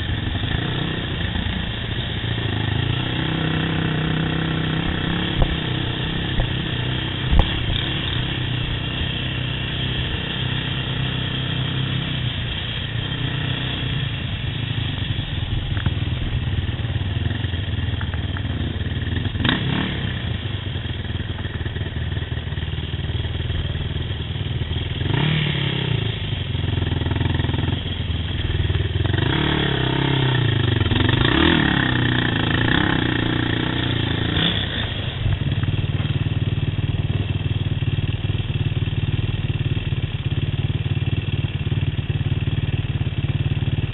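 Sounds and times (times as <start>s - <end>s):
quad engine running: 0.0s - 43.9s.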